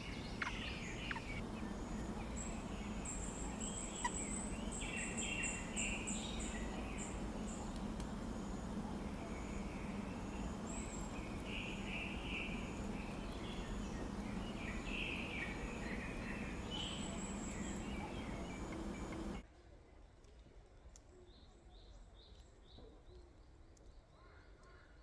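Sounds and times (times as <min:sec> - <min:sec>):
outdoor background noise with hum: 0:00.0 - 0:25.0.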